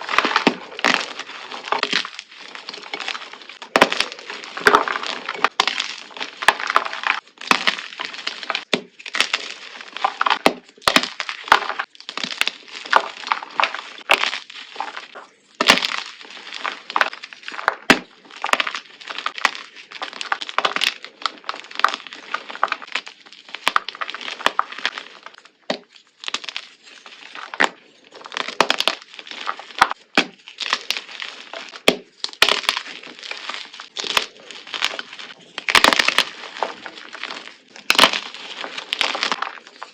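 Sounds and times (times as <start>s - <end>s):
brittle material crunching: 0.0s - 39.9s.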